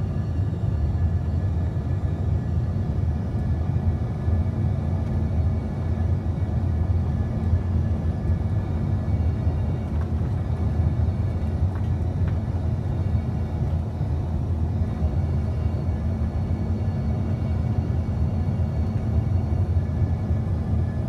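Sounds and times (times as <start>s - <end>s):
aircraft engine and airflow rumble: 0.0s - 21.0s.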